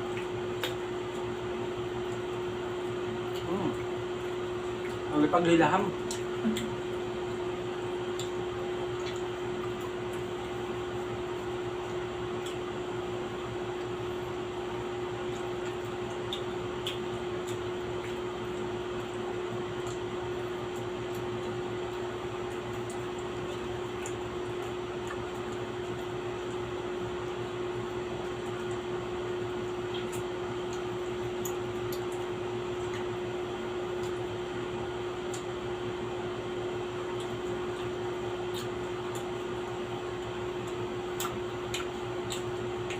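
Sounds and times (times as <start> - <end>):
steady motor hum: 0.0 - 42.9.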